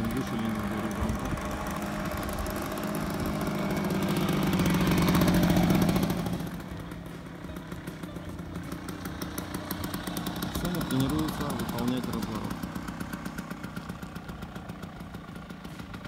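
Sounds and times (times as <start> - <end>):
scooter engine passing by: 0.0 - 16.0.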